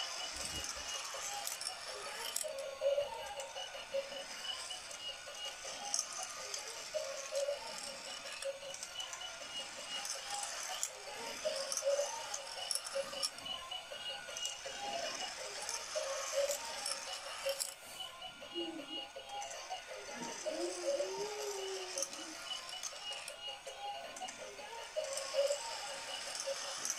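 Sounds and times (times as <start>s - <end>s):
toy cars rattling on track: 0.0s - 17.8s, 19.3s - 23.5s, 24.1s - 26.9s
motor whir: 0.0s - 18.4s, 19.3s - 23.5s, 24.1s - 26.9s.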